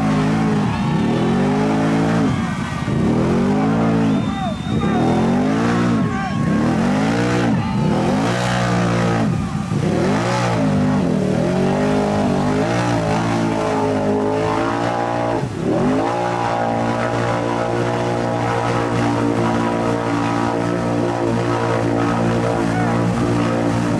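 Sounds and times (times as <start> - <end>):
atv engine revving: 0.0 - 23.9
tires spinning through mud: 0.0 - 23.9.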